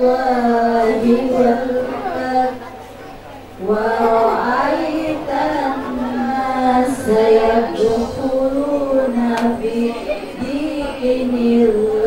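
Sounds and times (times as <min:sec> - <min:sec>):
woman chanting into microphone: 0:00.0 - 0:02.7, 0:03.6 - 0:12.0.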